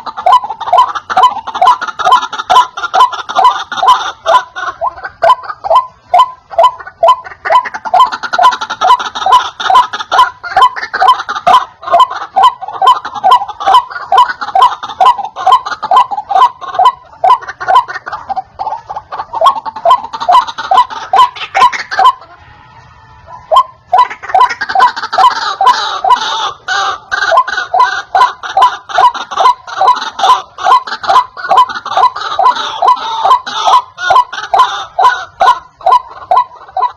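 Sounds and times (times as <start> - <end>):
waterhen croaking call: 0.0 - 36.9.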